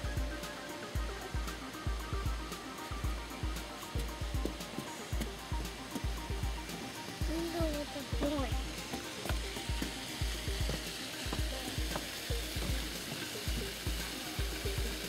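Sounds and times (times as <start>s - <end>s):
crackling wind hiss: 0.0s - 15.0s.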